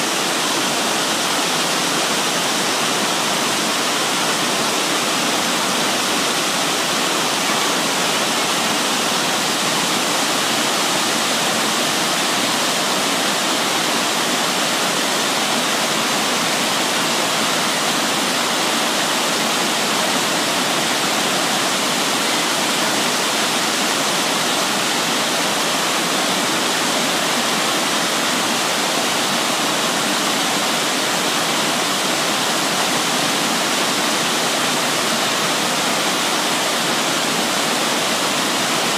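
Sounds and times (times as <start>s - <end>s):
mountain stream rushing: 0.0s - 38.9s
small waterfall: 0.0s - 38.9s.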